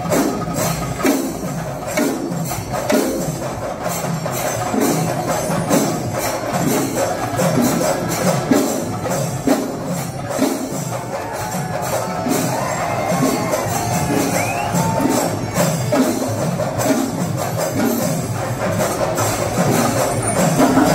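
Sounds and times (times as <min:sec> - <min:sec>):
drums beating steady rhythm: 0:00.0 - 0:20.9.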